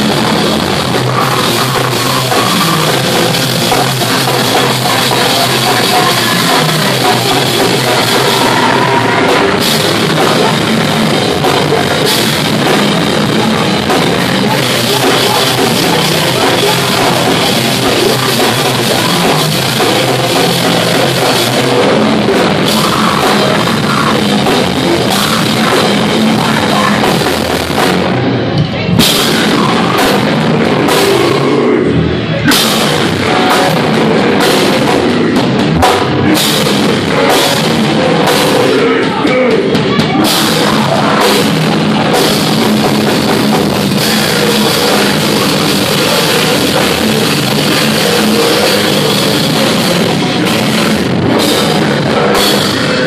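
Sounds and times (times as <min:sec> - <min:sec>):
metal band playing live: 0:00.0 - 0:53.0.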